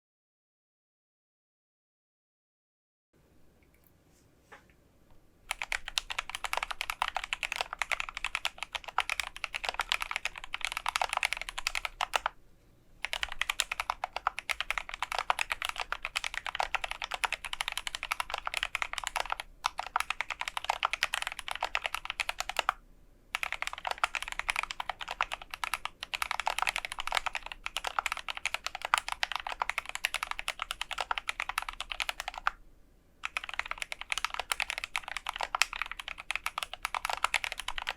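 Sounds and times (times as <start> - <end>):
mechanical keyboard typing: 5.5 - 12.4, 13.0 - 32.6, 33.2 - 37.9.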